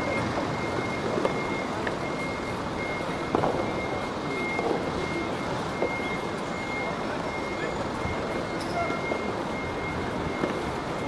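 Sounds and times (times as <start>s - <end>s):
high electronic beep: 0.0s - 11.0s
outdoor background noise: 0.0s - 11.0s.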